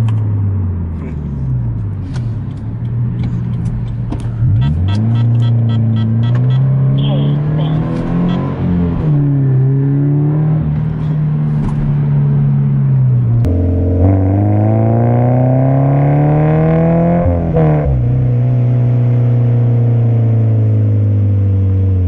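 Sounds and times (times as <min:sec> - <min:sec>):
car engine and exhaust drone: 0:00.0 - 0:22.0.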